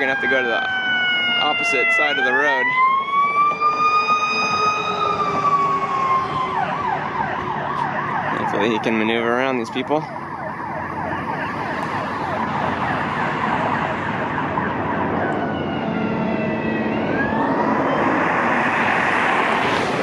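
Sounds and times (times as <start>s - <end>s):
emergency vehicle siren: 0.0s - 20.0s
road traffic noise: 0.0s - 20.0s.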